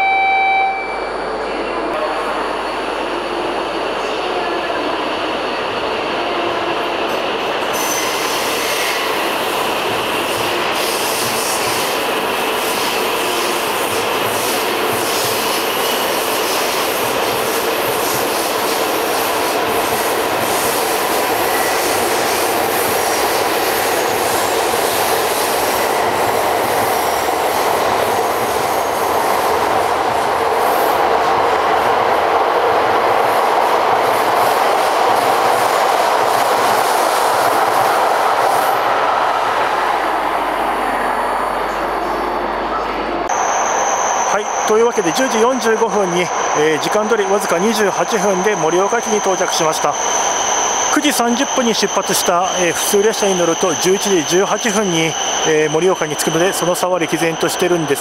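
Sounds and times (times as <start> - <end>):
train wheels rushing: 7.2 - 42.2, 43.2 - 58.0.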